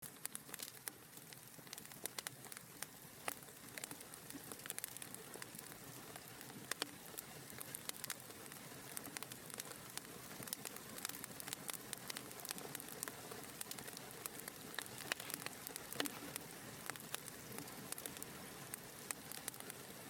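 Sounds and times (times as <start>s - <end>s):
soft hiss of flames: 0.0s - 20.0s
wood fire popping and snapping: 0.0s - 20.0s.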